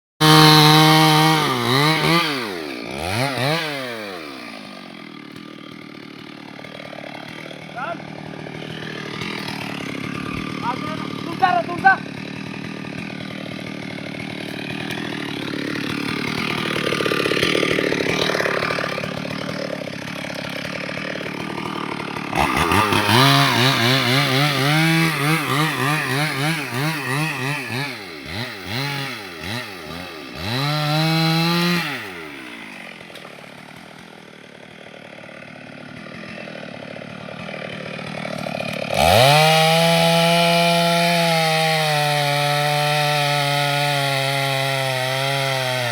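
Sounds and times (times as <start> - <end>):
chainsaw revving: 0.2 - 45.9.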